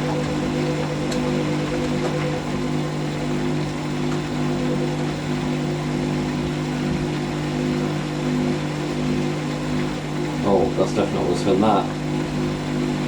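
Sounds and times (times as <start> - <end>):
washing machine drum spinning: 0.0 - 13.0.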